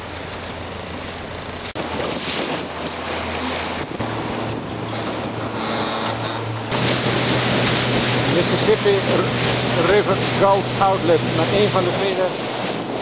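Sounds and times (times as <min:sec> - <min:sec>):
boat motor humming: 0:00.0 - 0:13.0
water rushing past hull: 0:00.0 - 0:13.0
wind buffeting microphone: 0:00.0 - 0:13.0.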